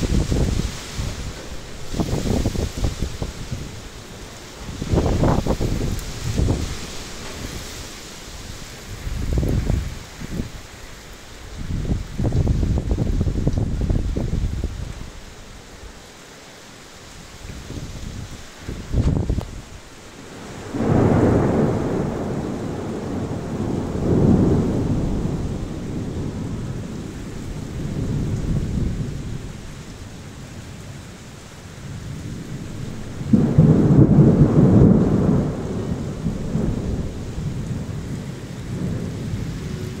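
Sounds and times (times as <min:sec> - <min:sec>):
rolling thunder: 0:00.0 - 0:10.7, 0:11.6 - 0:15.0, 0:17.6 - 0:29.7, 0:31.8 - 0:40.0
heavy rain falling: 0:00.0 - 0:40.0.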